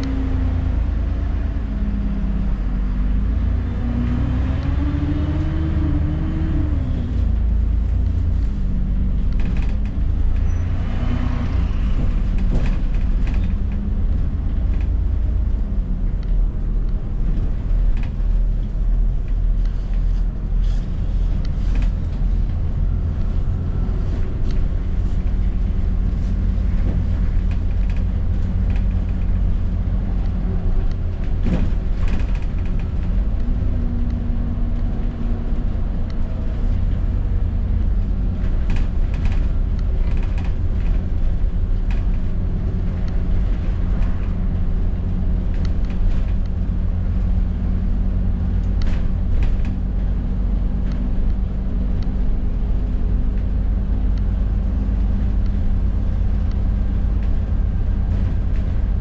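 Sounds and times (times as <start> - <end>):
bus engine and road drone: 0.0 - 59.0
creaks and rattles of bus body: 0.0 - 59.0.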